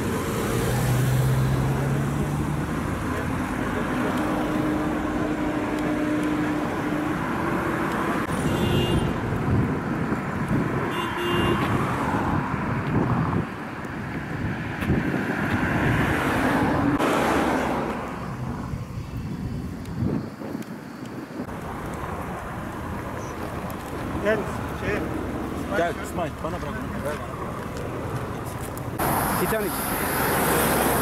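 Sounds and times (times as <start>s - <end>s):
engines humming: 0.0s - 31.0s.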